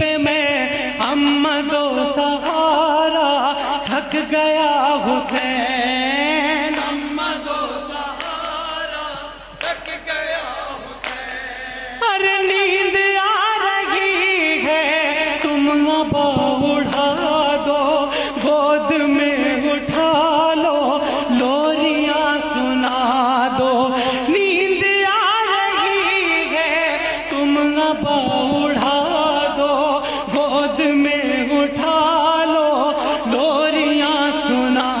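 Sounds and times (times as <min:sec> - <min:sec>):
solo voice chanting a lament: 0:00.0 - 0:35.0.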